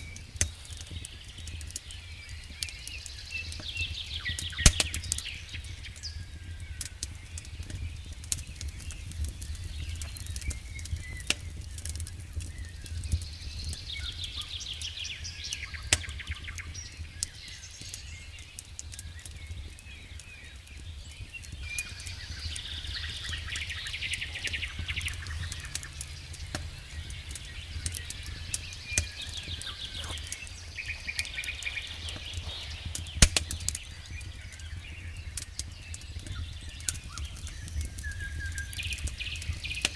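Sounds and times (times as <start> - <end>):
birds singing: 0.0 - 39.9
campfire crackling and popping: 0.0 - 39.9.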